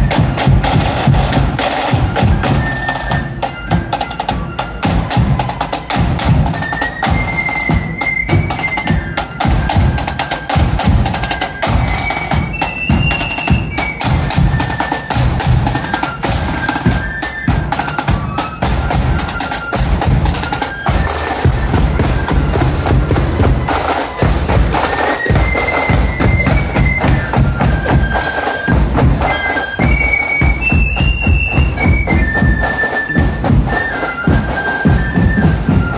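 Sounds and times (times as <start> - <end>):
bass drum beating a march: 0.0 - 35.9
flute melody: 0.0 - 35.9
snare drums: 0.0 - 35.9.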